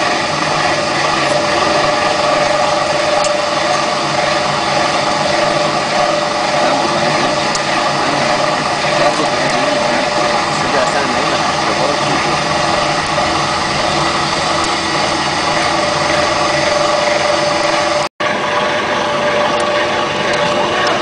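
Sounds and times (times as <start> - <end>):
machine droning with steady tones: 0.0 - 21.0.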